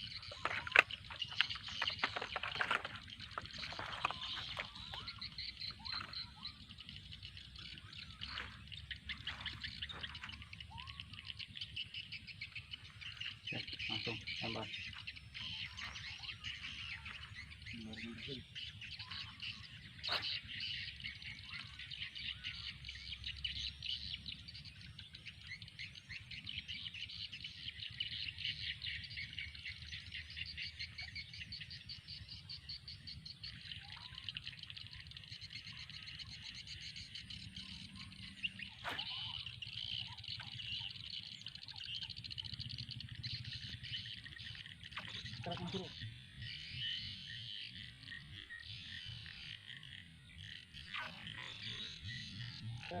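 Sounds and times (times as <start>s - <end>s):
rapid high chirping chorus: 0.0s - 53.0s.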